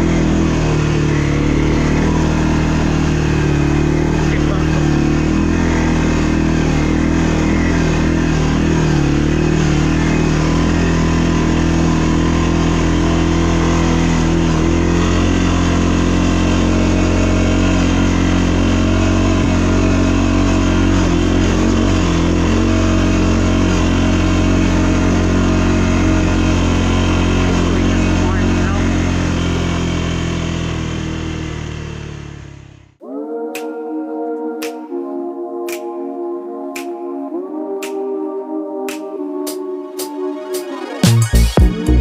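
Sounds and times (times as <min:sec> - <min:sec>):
atv engine running: 0:00.0 - 0:33.0, 0:41.0 - 0:42.0.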